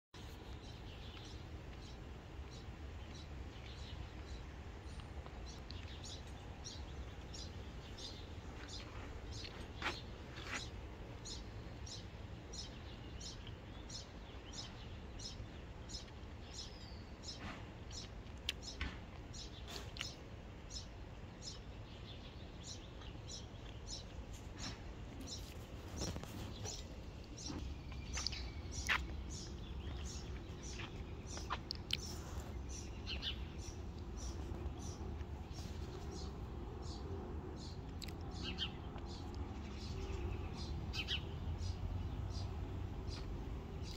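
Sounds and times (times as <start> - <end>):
low outdoor rumble: 0.2 - 43.9
songbird chirping: 0.2 - 43.9.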